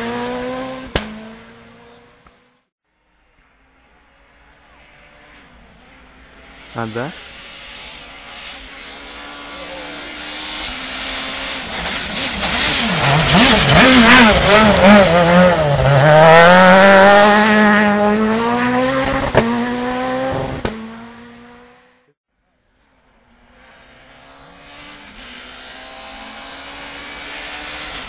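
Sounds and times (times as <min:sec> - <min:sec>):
rally car engine revving: 0:00.0 - 0:02.6, 0:03.6 - 0:22.1, 0:23.2 - 0:28.0.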